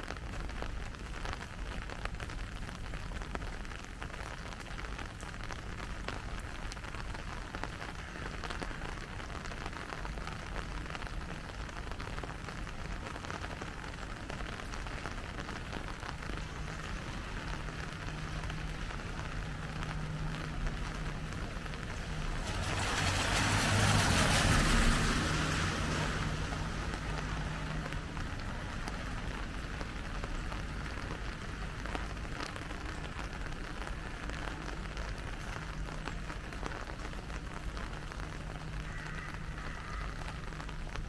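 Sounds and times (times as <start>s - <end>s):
rain falling on street: 0.0s - 41.0s
vehicle passing on wet road: 1.3s - 41.0s.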